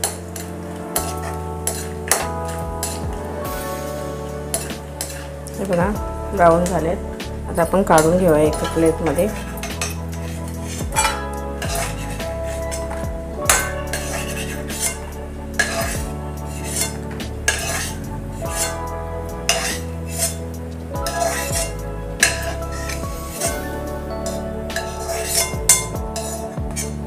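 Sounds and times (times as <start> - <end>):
steel ladle scraping a pan: 0.0 - 3.0, 3.8 - 5.8, 6.4 - 27.0.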